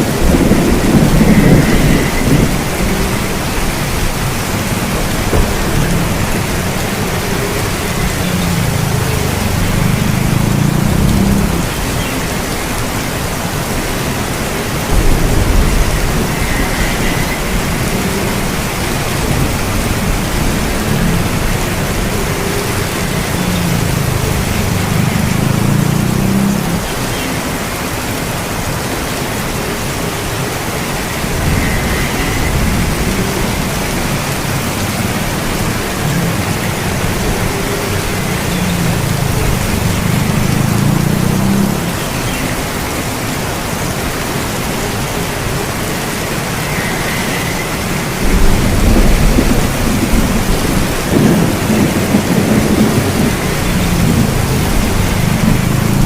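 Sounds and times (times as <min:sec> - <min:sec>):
distant thunder rumble: 0:00.0 - 0:27.0, 0:30.4 - 0:42.0, 0:48.1 - 0:56.0
steady rain hiss: 0:00.0 - 0:56.0.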